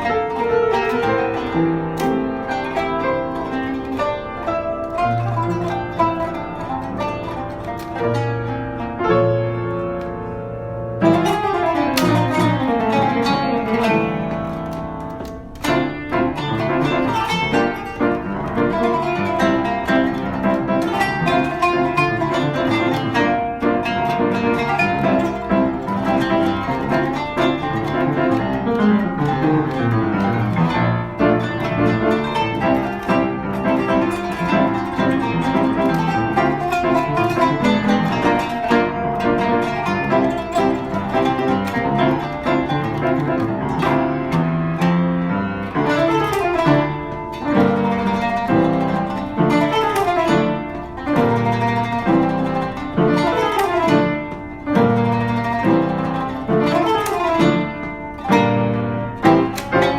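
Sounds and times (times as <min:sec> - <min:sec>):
piano: 0:00.0 - 0:59.9
plucked zither runs: 0:00.0 - 0:59.9.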